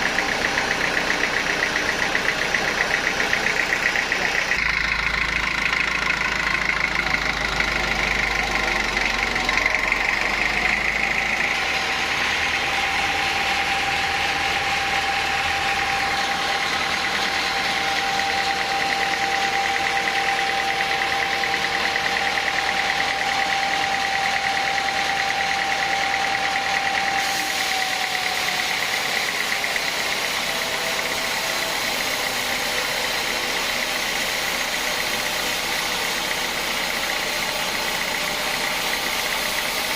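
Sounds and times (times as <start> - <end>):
held whine: 0.0 - 39.9
sawmill machinery running: 0.0 - 39.9.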